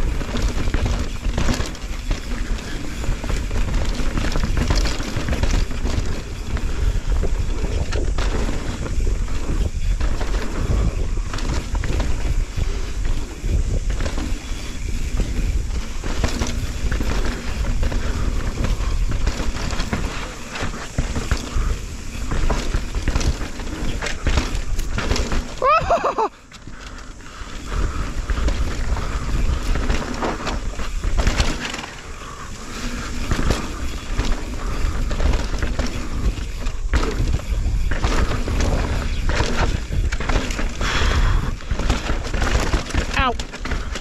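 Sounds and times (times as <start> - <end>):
bike clattering over bumps: 0.0 - 44.0
wind buffeting microphone: 0.0 - 44.0.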